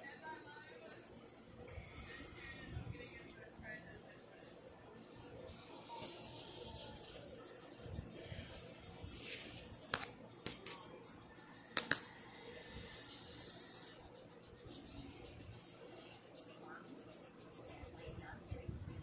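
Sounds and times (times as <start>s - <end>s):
scratchy rubbing of paper: 0.8s - 10.9s, 12.9s - 19.0s.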